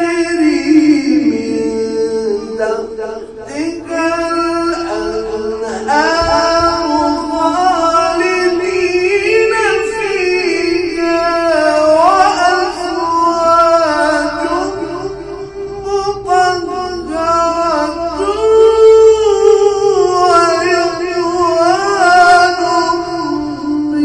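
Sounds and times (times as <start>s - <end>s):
man chanting melodically: 0.0s - 24.0s.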